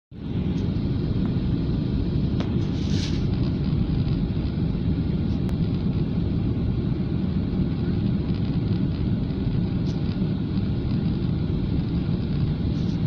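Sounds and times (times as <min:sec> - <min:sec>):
airliner cabin engine rumble: 0:00.1 - 0:13.0.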